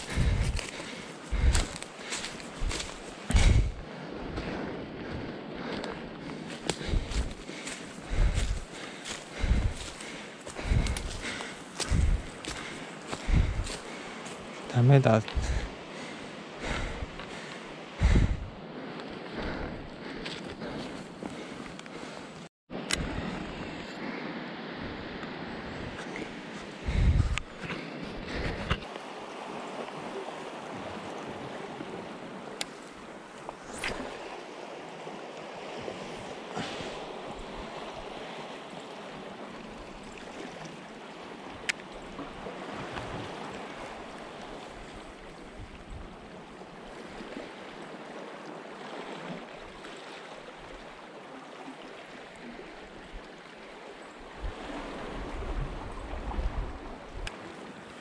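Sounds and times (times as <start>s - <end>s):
sea surf on rocky shore: 0.0s - 58.0s.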